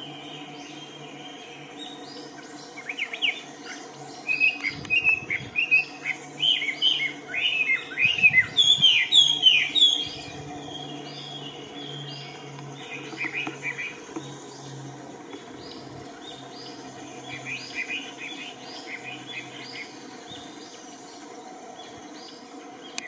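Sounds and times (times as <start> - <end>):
birds chirping: 0.0 - 23.0
steady low hum: 0.0 - 23.0.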